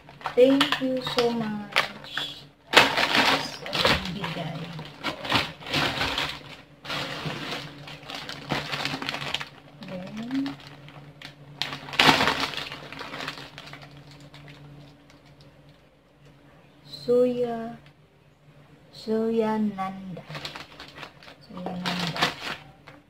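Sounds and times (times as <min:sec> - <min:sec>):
plastic bags crinkling: 0:00.0 - 0:15.8, 0:20.2 - 0:23.0
steady low hum: 0:00.0 - 0:23.0.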